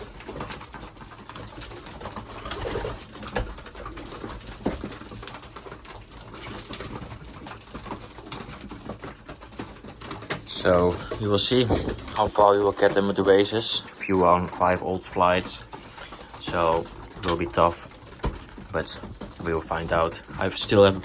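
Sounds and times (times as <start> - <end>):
birds clicking and scraping: 0.0 - 21.0
pigeons cooing: 0.0 - 21.0.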